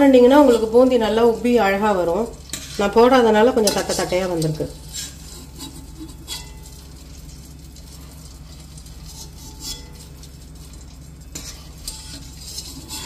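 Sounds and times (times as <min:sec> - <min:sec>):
oil sizzling: 0:00.0 - 0:13.0
strainer scraping metal pan: 0:00.0 - 0:13.0.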